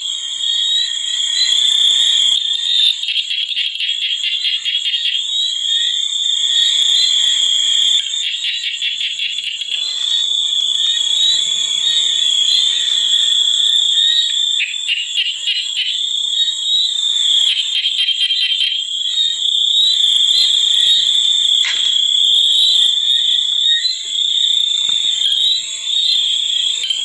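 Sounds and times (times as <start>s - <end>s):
shrill chorus of calling creatures: 0.0s - 27.0s.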